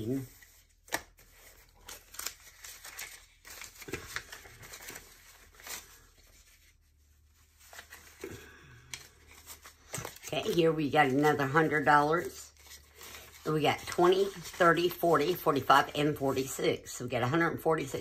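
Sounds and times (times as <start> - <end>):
banknotes rustling: 0.0 - 18.0.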